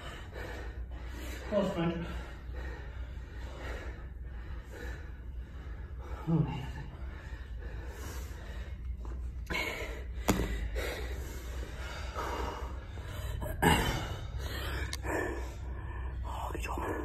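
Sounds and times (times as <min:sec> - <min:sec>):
person breathing hard: 0:00.0 - 0:17.0
steady low hum: 0:00.0 - 0:17.0.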